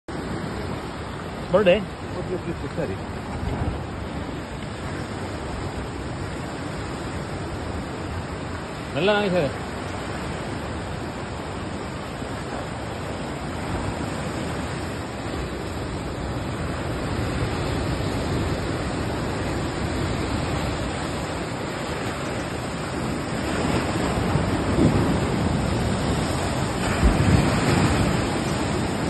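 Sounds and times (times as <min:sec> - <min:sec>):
waves breaking on rocks: 0:00.1 - 0:29.0.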